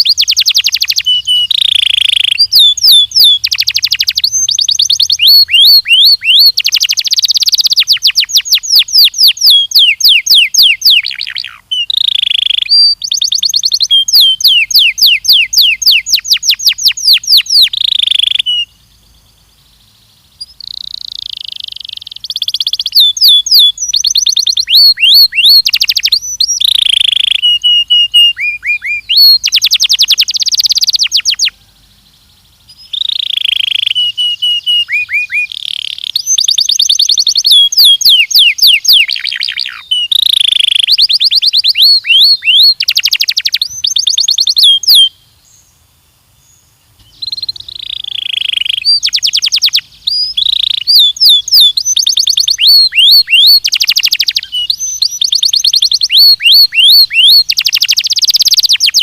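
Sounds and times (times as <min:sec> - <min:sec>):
canary singing fast trills: 0:00.0 - 0:59.0.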